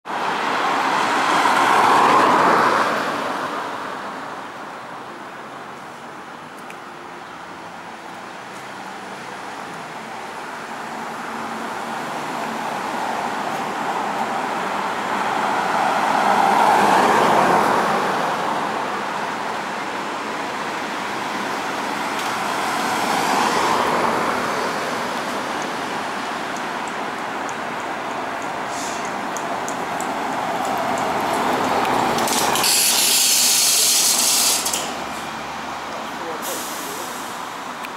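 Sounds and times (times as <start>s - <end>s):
vehicles passing on road: 0.0s - 37.9s.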